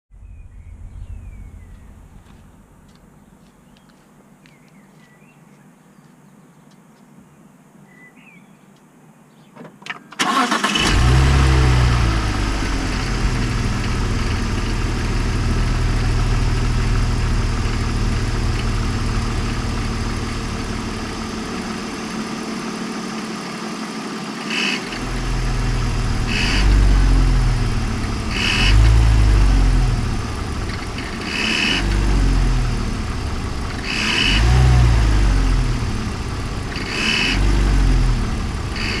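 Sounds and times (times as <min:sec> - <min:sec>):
car engine starting and idling: 0:00.2 - 0:03.1, 0:09.9 - 0:39.0
engine throttle blips: 0:00.2 - 0:03.1, 0:10.2 - 0:39.0.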